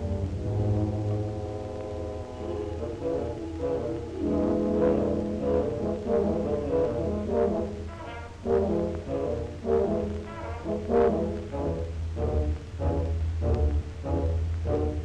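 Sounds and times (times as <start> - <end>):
orchestral music led by brass: 0.0 - 15.0.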